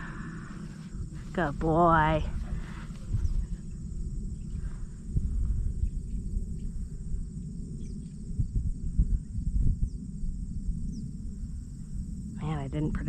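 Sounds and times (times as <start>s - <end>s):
insect chorus: 0.0s - 13.0s
wind buffeting microphone: 0.0s - 13.0s.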